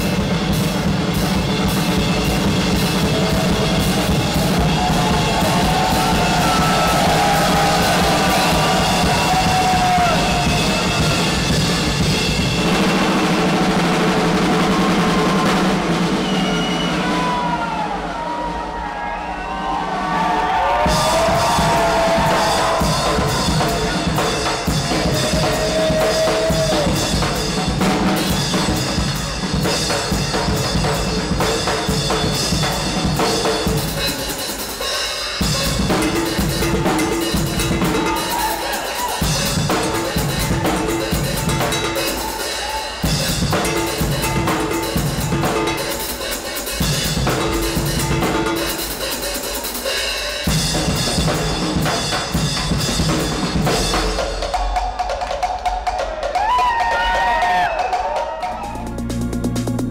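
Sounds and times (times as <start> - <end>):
pitched music: 0.0 - 17.3, 20.6 - 59.9
drum kit playing fast beat: 0.0 - 17.7, 20.0 - 59.9.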